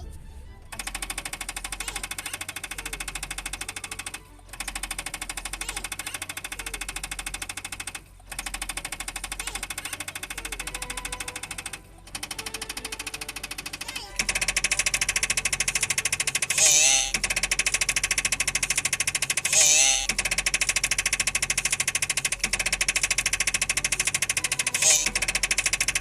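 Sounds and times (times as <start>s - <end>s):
small machine clattering: 0.7s - 26.0s.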